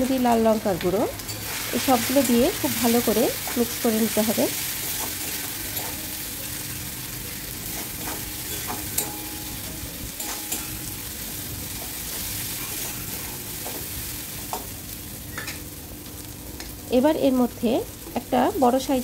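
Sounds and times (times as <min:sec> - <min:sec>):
spice paste sizzling in oil: 0:00.0 - 0:19.0.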